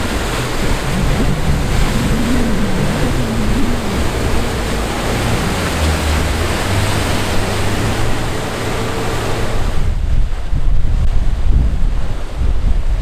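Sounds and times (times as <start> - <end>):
outboard engines droning: 0.0 - 10.6
rushing water and spray: 0.0 - 13.0
wind buffeting microphone: 0.0 - 13.0.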